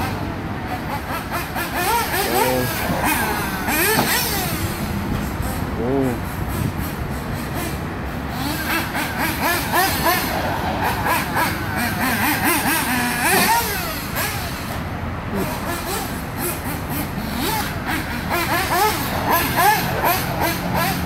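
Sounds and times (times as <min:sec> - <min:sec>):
rc buggy engine revving: 0:00.0 - 0:21.0.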